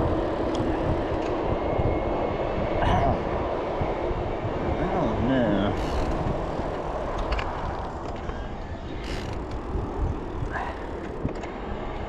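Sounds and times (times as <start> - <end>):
bicycle tyre noise on road: 0.0 - 12.0
wind on microphone: 0.0 - 12.0.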